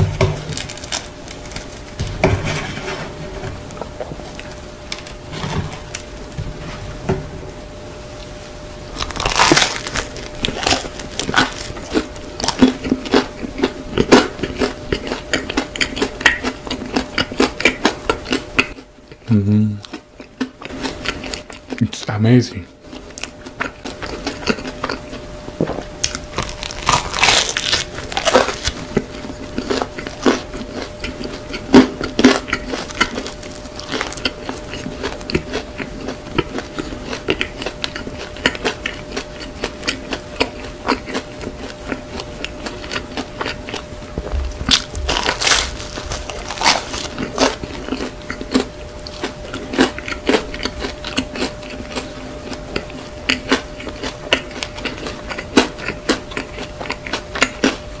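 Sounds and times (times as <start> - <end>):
faint steady hum: 0.0 - 58.0
chewing with mouth clicks: 9.0 - 21.9, 22.8 - 57.9.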